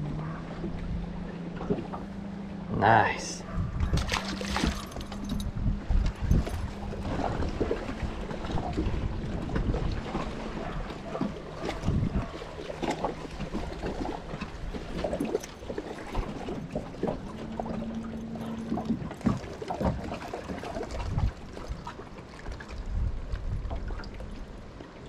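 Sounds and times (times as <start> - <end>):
low hum: 0.0 - 25.0
water lapping against boat hull: 0.0 - 25.0.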